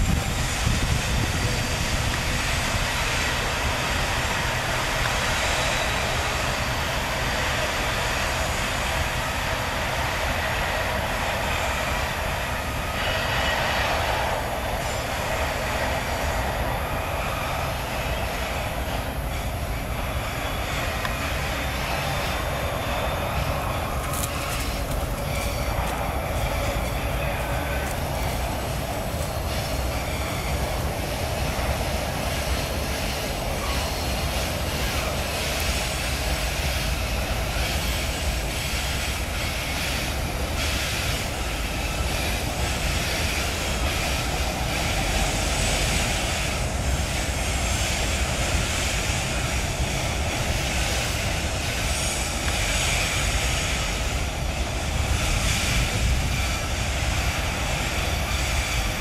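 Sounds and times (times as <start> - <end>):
diesel locomotive engines droning: 0.0 - 59.0
train wheels rolling: 0.0 - 59.0.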